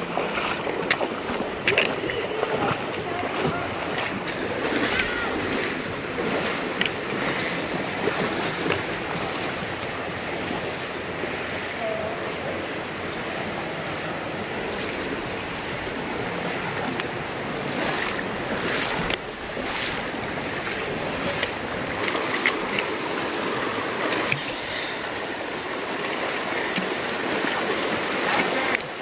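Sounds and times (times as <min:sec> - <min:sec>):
river flowing over rocks: 0:00.0 - 0:29.0
water splashes: 0:00.0 - 0:29.0.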